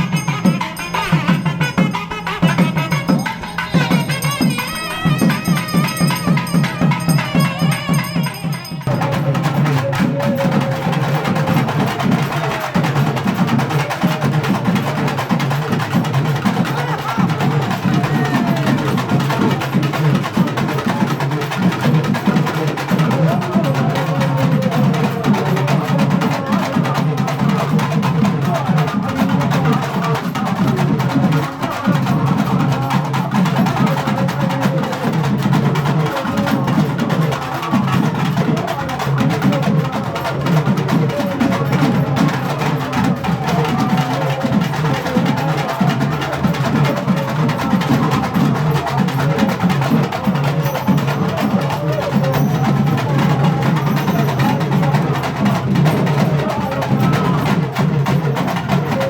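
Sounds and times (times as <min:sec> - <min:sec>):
drum-led percussion music: 0:00.0 - 0:59.0
voices: 0:00.0 - 0:59.0.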